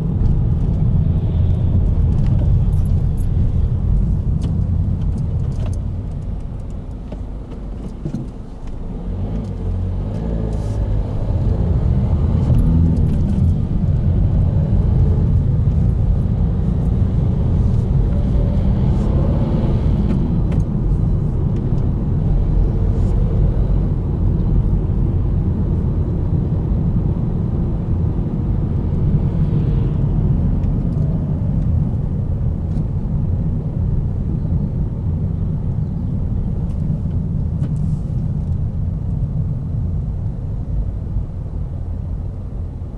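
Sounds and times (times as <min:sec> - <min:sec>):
car engine from inside cabin: 0:00.0 - 0:42.9
road noise: 0:00.0 - 0:42.9.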